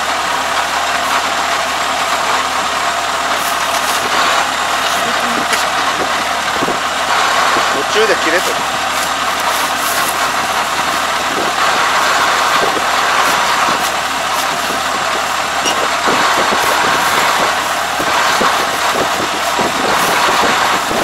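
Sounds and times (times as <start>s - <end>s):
combine harvester engine running: 0.0s - 21.0s
straw rustling: 2.0s - 20.2s.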